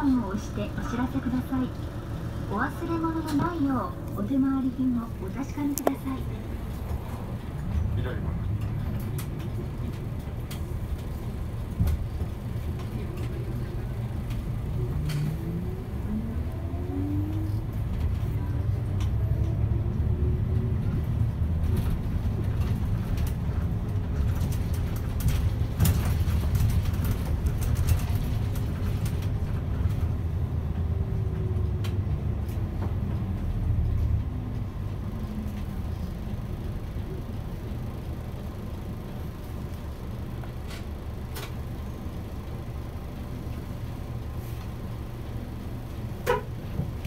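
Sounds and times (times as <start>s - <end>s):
bus engine rumbling: 0.0s - 47.0s.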